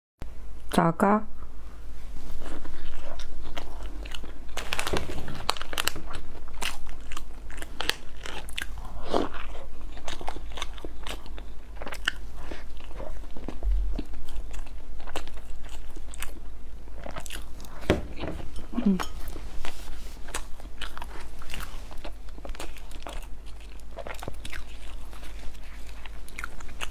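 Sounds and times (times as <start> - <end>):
chewing soft cake: 2.1 - 26.9.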